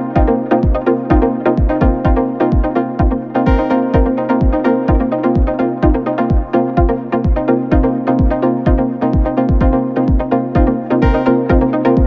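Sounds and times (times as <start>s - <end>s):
electronic music: 0.0s - 12.0s
kick drum beat: 0.0s - 12.0s
sustained synth chords: 0.0s - 12.0s.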